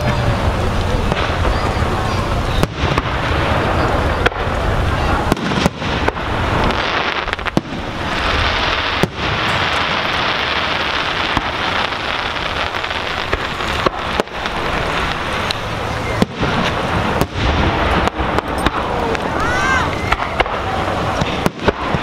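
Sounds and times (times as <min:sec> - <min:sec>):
loud steady hiss: 0:00.0 - 0:22.0
firework shells bursting: 0:00.9 - 0:22.0.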